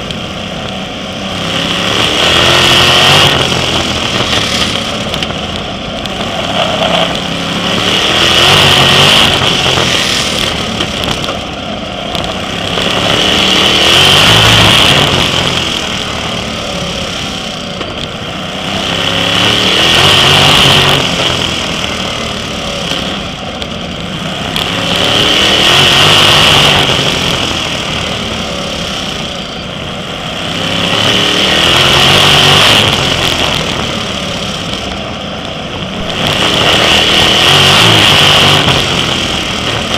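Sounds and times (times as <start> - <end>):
racing car engine: 0.0 - 39.9.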